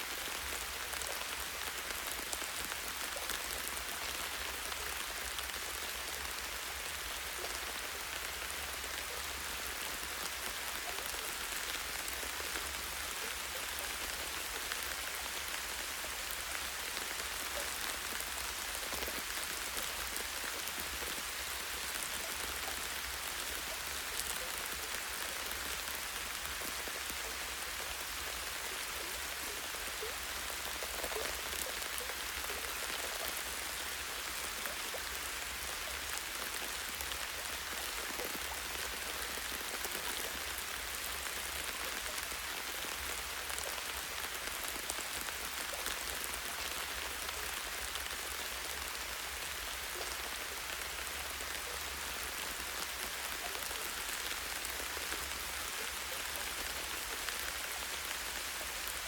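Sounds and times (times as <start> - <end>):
light rain on leaves: 0.0 - 59.0.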